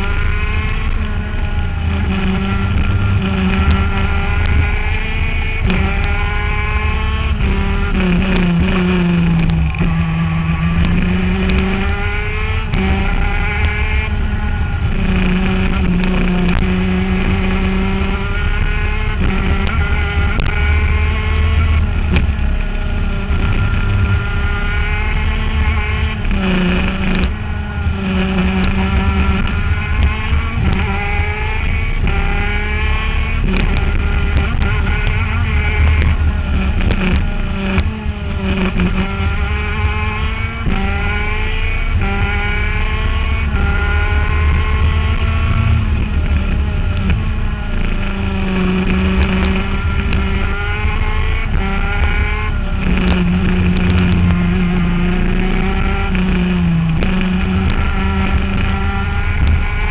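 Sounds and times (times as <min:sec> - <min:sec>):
kart two-stroke engine revving: 0:00.0 - 0:59.9.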